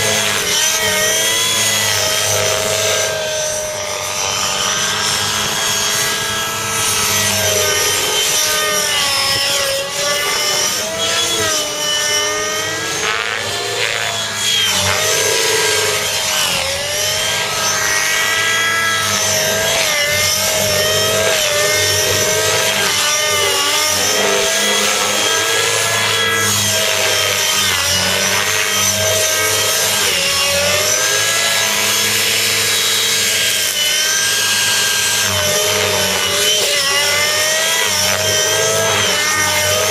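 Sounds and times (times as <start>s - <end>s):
model helicopter engine at high revs: 0.0s - 39.9s
rotor blade noise: 0.0s - 39.9s.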